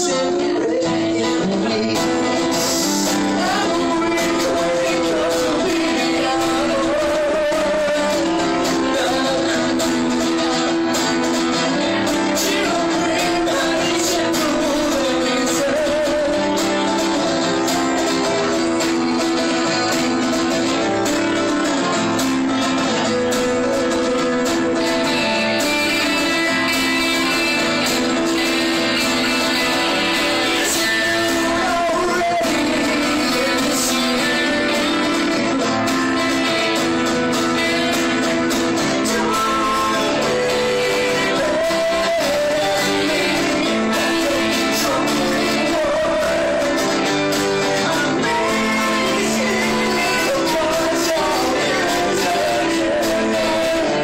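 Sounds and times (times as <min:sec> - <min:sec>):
electric guitar: 0:00.0 - 0:54.0
person singing: 0:00.0 - 0:54.0
strummed acoustic guitar: 0:00.0 - 0:54.0.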